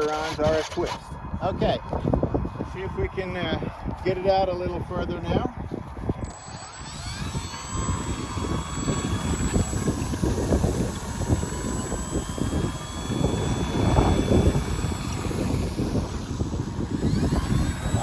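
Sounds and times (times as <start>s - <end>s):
electric propeller motor whining: 0.0s - 18.0s
wind buffeting microphone: 0.0s - 18.0s.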